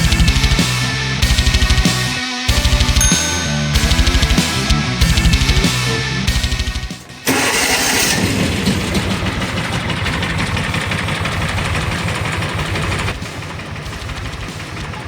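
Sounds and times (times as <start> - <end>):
utility vehicle engine running: 2.5 - 15.0.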